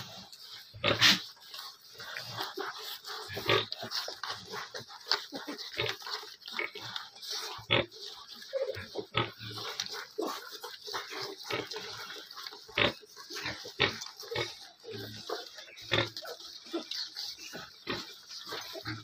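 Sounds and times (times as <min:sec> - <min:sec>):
piglets grunting and suckling: 0:00.0 - 0:19.0.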